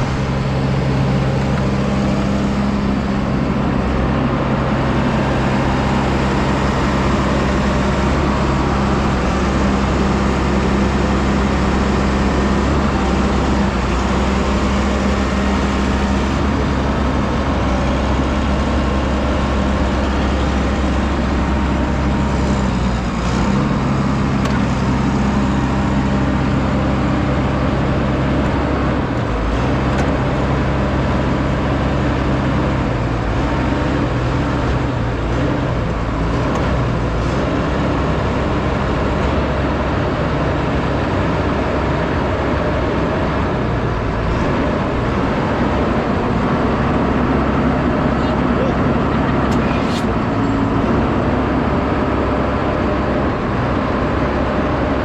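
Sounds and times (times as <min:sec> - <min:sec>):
paver diesel engine humming: 0:00.0 - 0:55.0.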